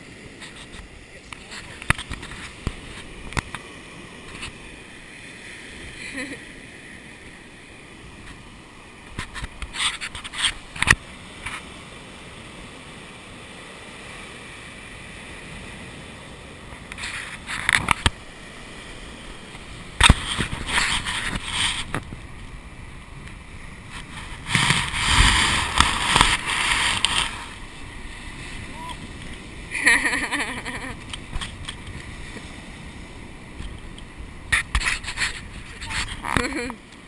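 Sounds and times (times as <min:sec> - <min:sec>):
breaking surf: 0:00.0 - 0:37.0
wind: 0:00.0 - 0:37.0.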